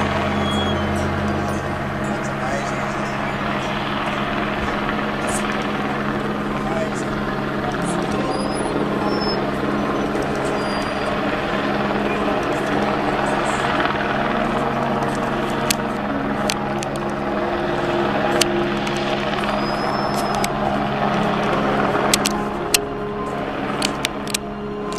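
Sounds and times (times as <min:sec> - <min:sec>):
helicopter engine and rotor drone: 0:00.0 - 0:24.9.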